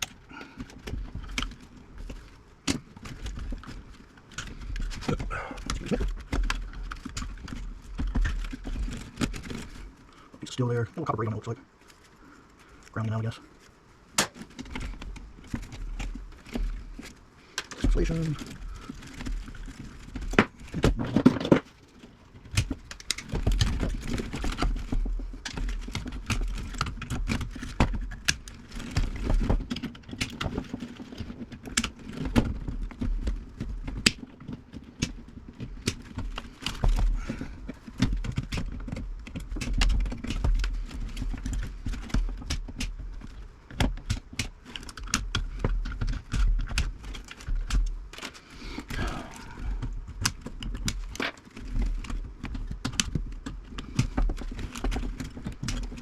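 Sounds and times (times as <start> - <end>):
handling rattle: 0.0 - 56.0.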